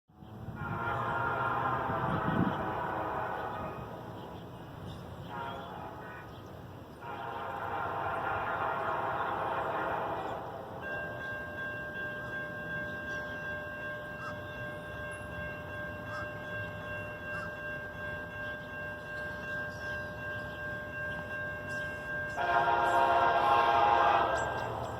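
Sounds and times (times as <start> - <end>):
rolling train noise: 0.1 - 24.9.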